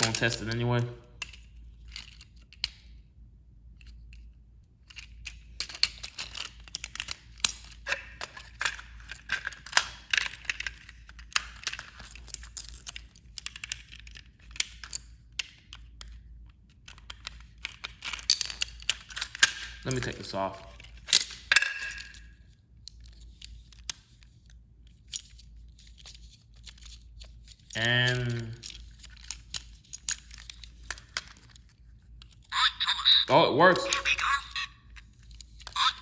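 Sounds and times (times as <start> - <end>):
plastic toy clicking and rattling: 0.0 - 0.6, 1.2 - 3.0, 3.8 - 36.0.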